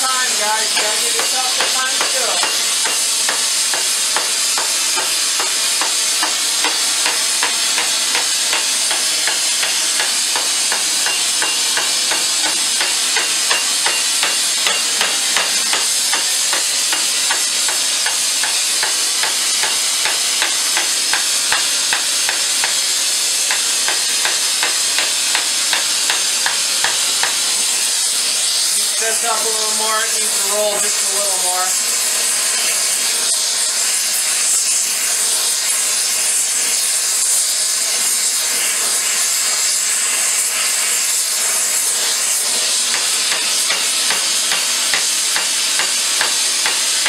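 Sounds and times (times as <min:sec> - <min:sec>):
gas torch flame hissing: 0:00.0 - 0:47.0.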